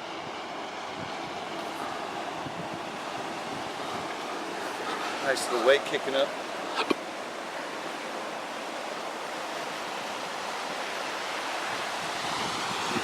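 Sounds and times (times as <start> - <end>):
waves washing onto shore: 0.0 - 13.0.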